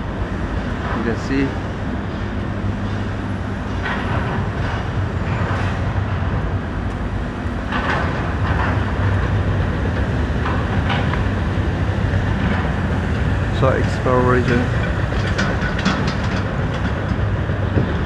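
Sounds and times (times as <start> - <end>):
rushing background noise: 0.0 - 18.0.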